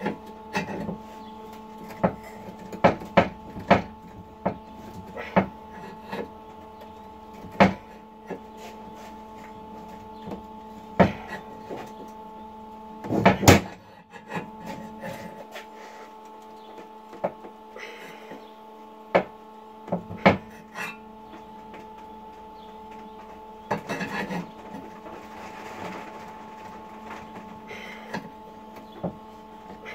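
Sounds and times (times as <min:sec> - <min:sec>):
electrical hum: 0:00.0 - 0:29.9.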